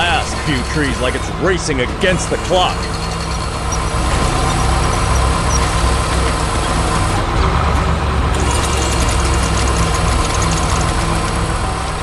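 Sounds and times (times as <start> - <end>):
diesel excavator engine running: 0.0 - 12.0.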